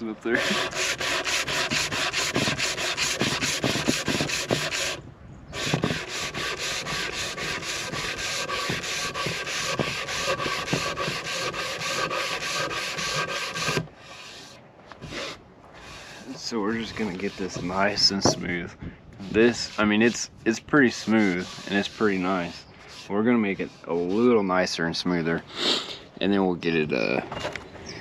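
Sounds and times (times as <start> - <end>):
palm sander sanding wood: 0.1 - 18.6, 19.2 - 24.5.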